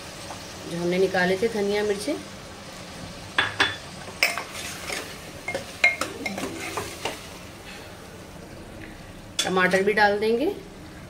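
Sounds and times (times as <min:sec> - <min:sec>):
light sizzle of frying meat: 0:00.0 - 0:11.0.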